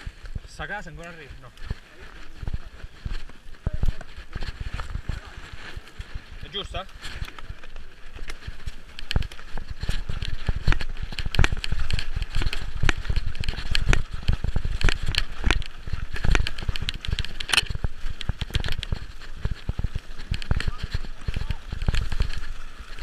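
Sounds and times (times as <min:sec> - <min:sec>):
bike clicks and knocks over bumps: 0:00.0 - 0:23.0
tyres crackling through dry leaves: 0:00.0 - 0:23.0.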